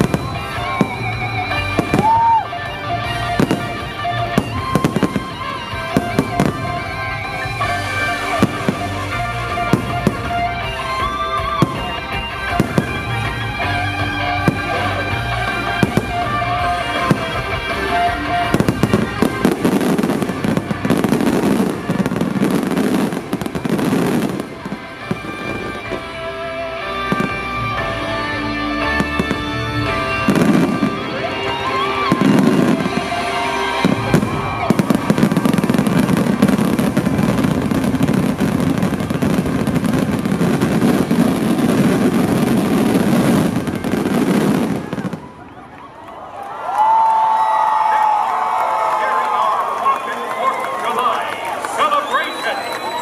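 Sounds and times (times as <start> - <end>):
fireworks bursting: 0.0 - 45.9, 47.6 - 53.0
music soundtrack: 0.0 - 46.0, 46.6 - 53.0.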